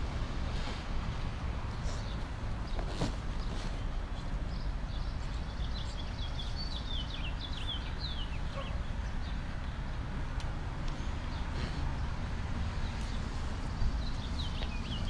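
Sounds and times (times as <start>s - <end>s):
songbird chirping: 2.0s - 15.0s.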